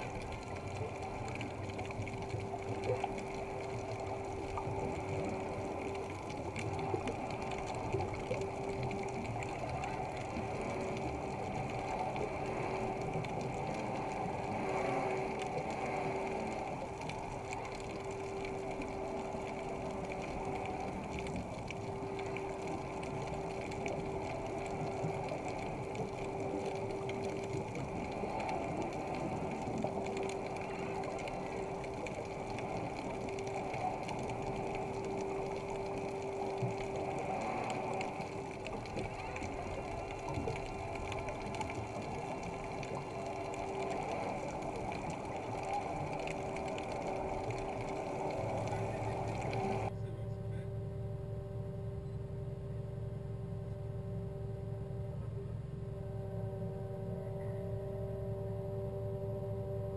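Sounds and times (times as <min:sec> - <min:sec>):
faint scuba bubbling: 0:00.0 - 0:59.9
steady underwater droning hum: 0:00.0 - 0:59.9.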